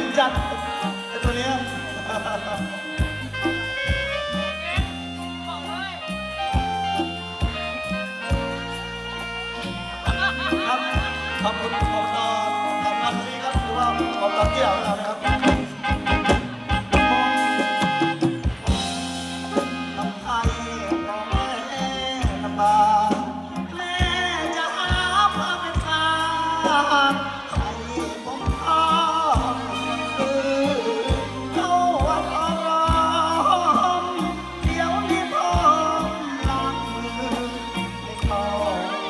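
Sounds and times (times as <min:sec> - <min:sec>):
man singing into a microphone: 0:00.0 - 0:06.8, 0:07.8 - 0:39.0
live rock band playing: 0:00.0 - 0:39.0.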